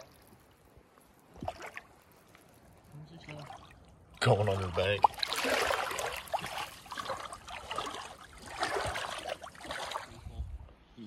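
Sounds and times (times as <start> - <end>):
stream water splashing: 0.0 - 10.3.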